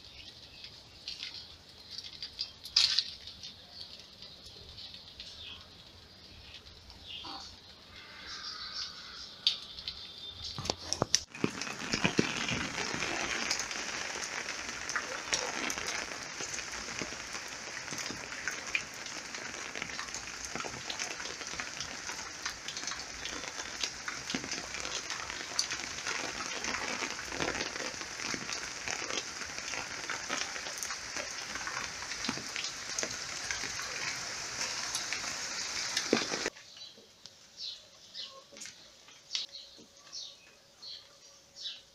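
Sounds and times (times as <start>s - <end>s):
pattering rain-like hiss: 0.0s - 41.8s.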